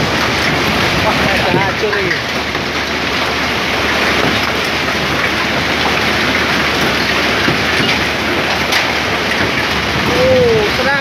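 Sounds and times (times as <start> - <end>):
hailstones ticking: 0.0 - 11.0
heavy rain on flooded road: 0.0 - 11.0.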